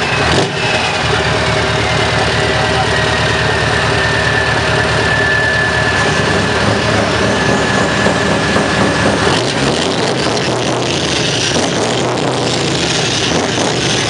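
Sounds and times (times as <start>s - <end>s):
diesel truck engine idling: 0.0s - 14.0s
steady high tone: 0.9s - 13.2s.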